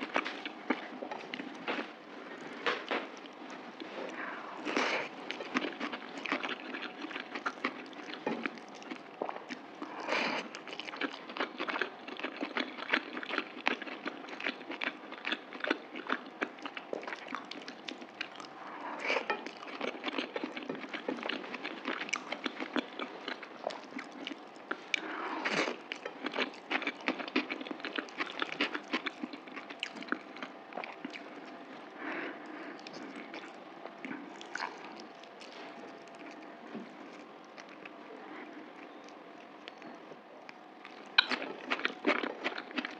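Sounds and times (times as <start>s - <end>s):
chewing food: 0.0s - 42.9s.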